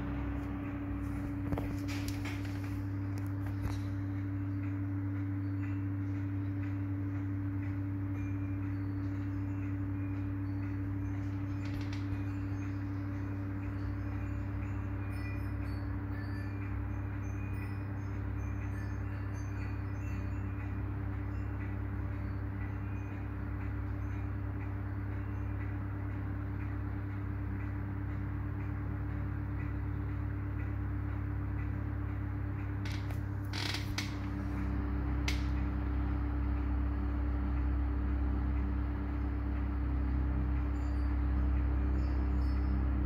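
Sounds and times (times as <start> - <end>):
desk fan motor hum: 0.0 - 43.0.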